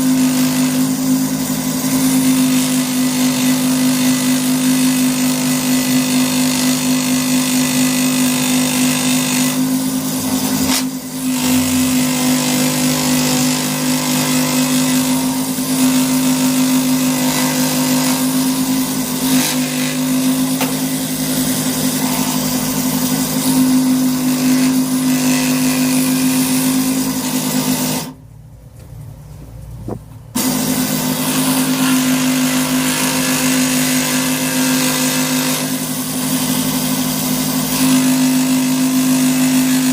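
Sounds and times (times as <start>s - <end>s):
power tool motor on wood: 0.0s - 28.2s, 30.4s - 39.9s.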